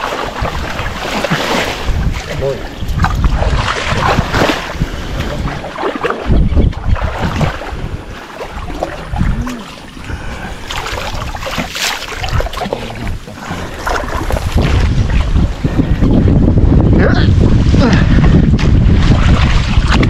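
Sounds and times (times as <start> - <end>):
water sloshing and splashing: 0.0 - 16.7, 17.4 - 20.0
wind buffeting microphone: 0.0 - 20.0.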